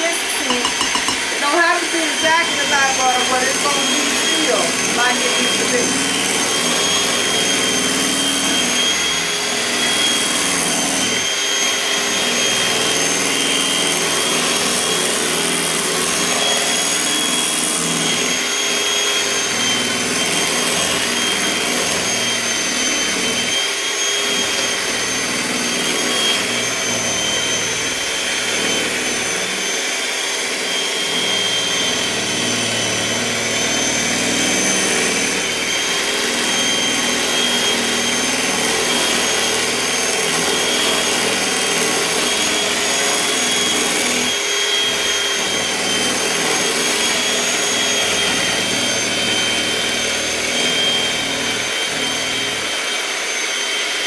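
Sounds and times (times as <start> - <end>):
electric mixer whining: 0.0 - 54.0.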